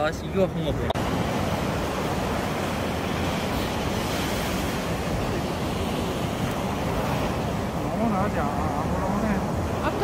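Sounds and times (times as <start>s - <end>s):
surf washing onto beach: 0.0s - 10.0s
wind buffeting microphone: 0.0s - 10.0s.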